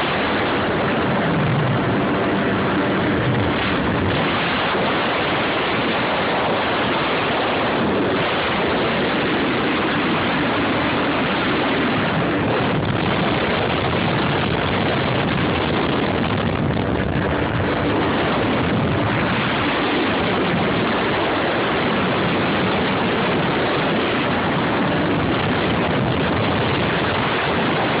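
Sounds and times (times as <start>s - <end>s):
jet ski engine: 0.0s - 28.0s
wind noise on microphone: 0.0s - 28.0s.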